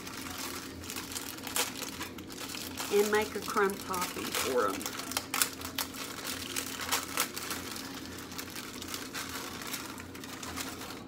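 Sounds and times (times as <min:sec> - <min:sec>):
crackers crunching: 0:00.0 - 0:11.0
paper crinkling: 0:00.0 - 0:11.0.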